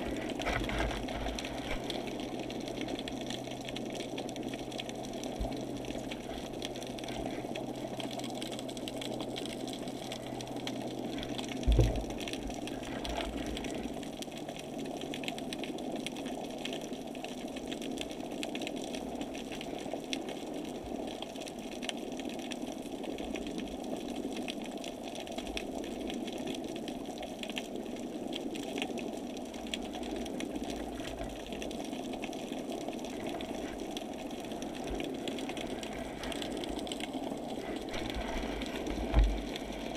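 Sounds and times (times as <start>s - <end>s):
water noise: 0.0s - 39.9s.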